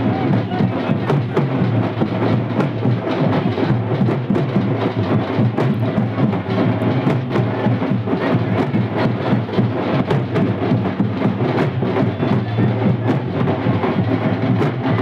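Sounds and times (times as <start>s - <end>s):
percussion-driven dance music: 0.0s - 15.0s.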